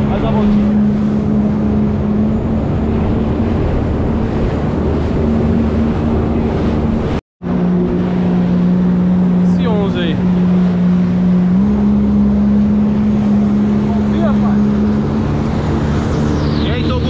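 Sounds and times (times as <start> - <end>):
jet ski engine droning: 0.0 - 17.0
spray and wind rushing: 0.0 - 17.0.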